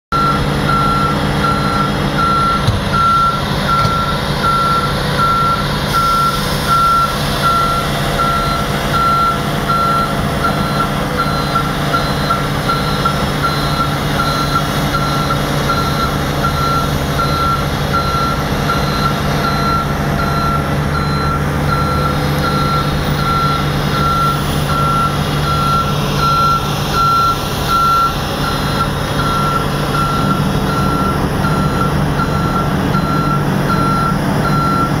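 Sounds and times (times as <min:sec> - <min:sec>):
heavy diesel engine running: 0:00.1 - 0:35.0
reversing alarm beeping: 0:00.1 - 0:35.0.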